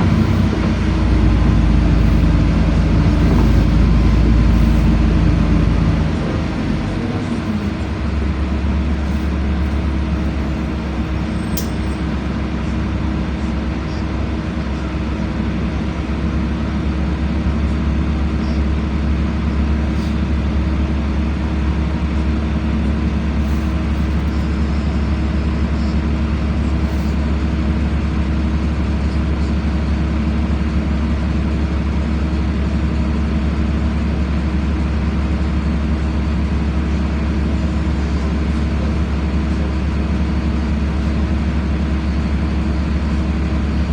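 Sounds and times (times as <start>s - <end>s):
bus engine low hum: 0.0s - 43.9s.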